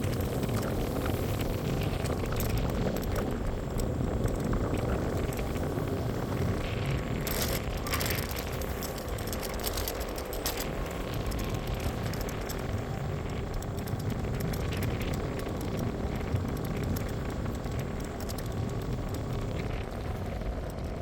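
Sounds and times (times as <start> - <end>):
small rattles and clicks: 0.0 - 21.0
wind and road noise: 0.0 - 21.0.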